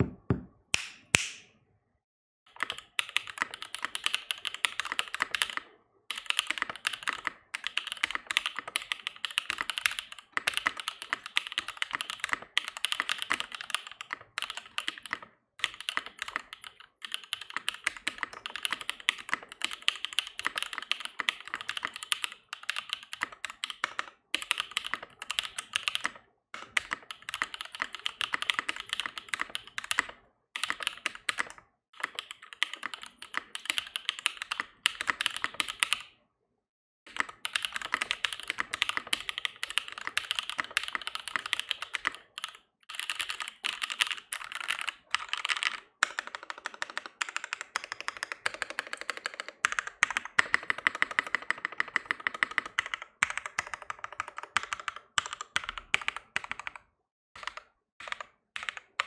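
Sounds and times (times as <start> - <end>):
fast typing on mechanical keyboard: 2.5 - 36.2, 37.1 - 59.0.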